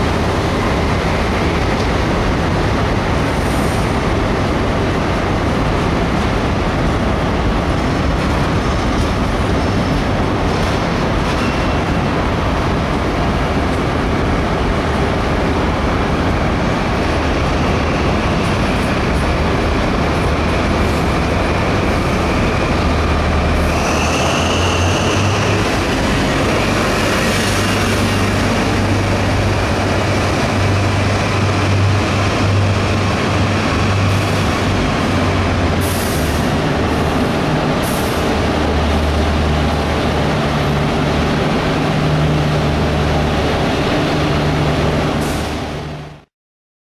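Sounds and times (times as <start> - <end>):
train wheel rumble: 0.0 - 46.2
diesel train engine drone: 0.0 - 46.3.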